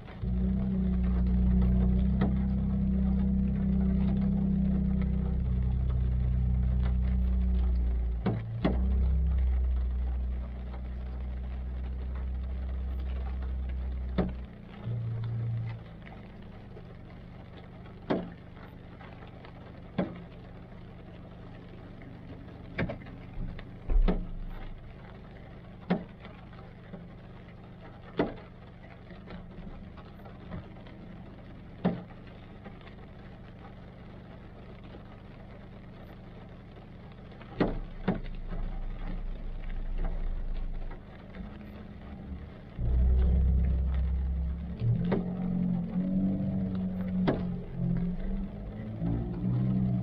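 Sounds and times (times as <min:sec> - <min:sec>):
car engine idling: 0:00.0 - 0:50.0
low rumble: 0:00.0 - 0:50.0
raindrops tapping on car: 0:00.0 - 0:50.0.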